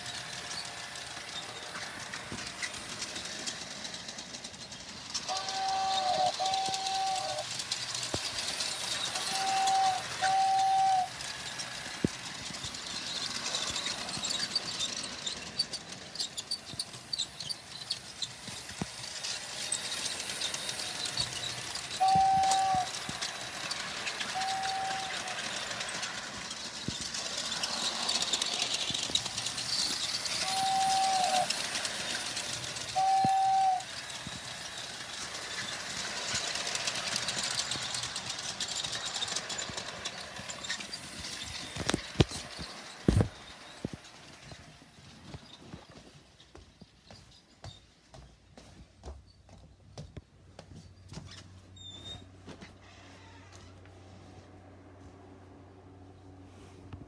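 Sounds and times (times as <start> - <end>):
passing train rumble and hiss: 0.0 - 45.6, 52.8 - 57.0.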